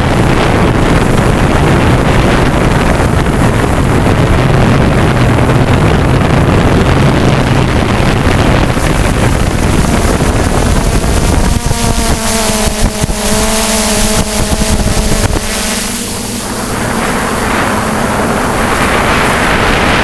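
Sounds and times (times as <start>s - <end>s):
drone motor whine: 0.0s - 20.0s
wind rumble on microphone: 0.0s - 20.0s.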